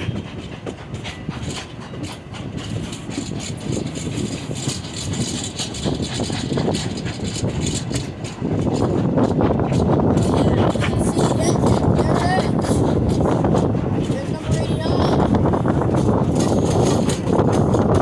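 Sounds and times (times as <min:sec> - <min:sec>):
railcar wheels rumbling on rails: 0:00.0 - 0:18.0.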